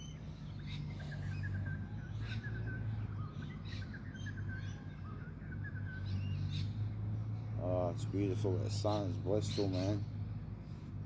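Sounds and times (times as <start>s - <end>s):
low background hum: 0.0s - 11.0s
small birds chirping: 0.0s - 11.0s.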